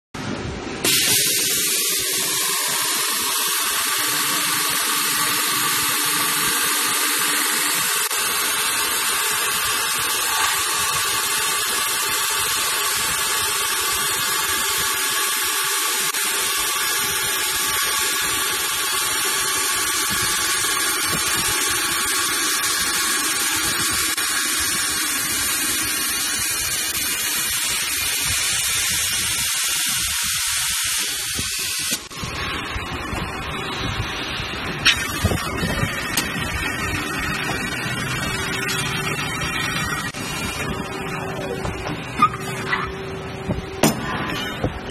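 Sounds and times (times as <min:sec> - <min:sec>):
spinning machine whirring hiss: 0:00.8 - 0:41.2
faint constant whine: 0:01.5 - 0:44.9.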